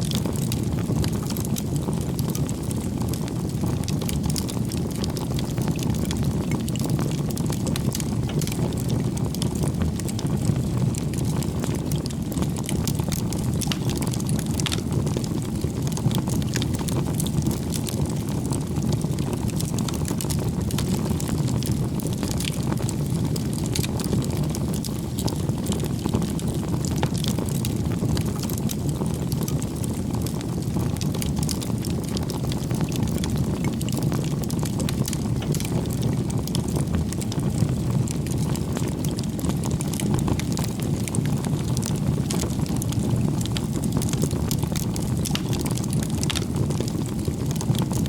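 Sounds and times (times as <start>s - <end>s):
burning wood crackling and popping: 0.0s - 48.0s
fire rushing: 0.0s - 48.0s.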